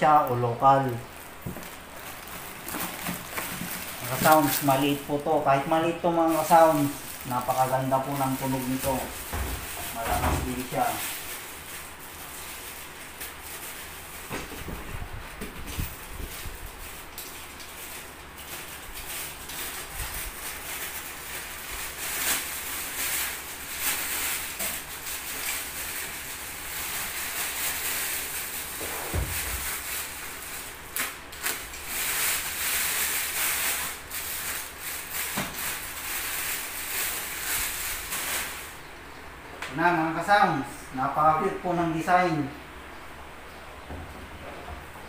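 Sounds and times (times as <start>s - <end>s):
plastic wrapping crinkling: 0.0s - 38.9s.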